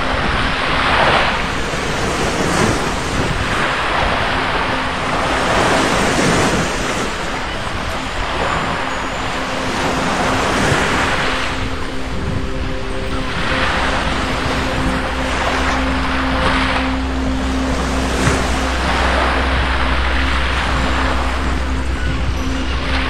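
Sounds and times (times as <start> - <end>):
waves breaking on beach: 0.0 - 23.0.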